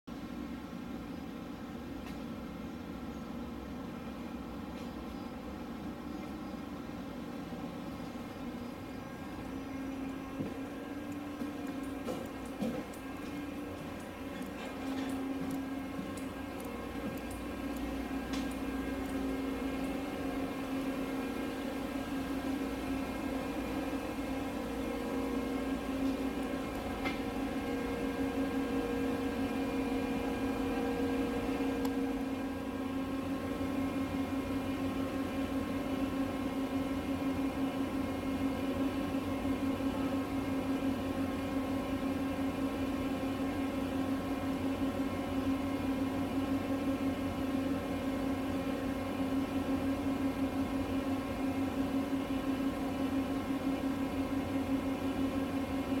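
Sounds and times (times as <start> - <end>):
steady mechanical hum: 0.1 - 56.0.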